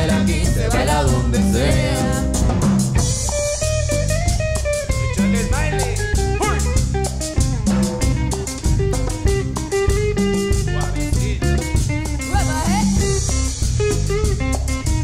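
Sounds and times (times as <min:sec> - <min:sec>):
bass: 0:00.0 - 0:15.0
drum kit: 0:00.0 - 0:15.0
electric guitar lead: 0:00.0 - 0:15.0
hand percussion: 0:00.0 - 0:15.0.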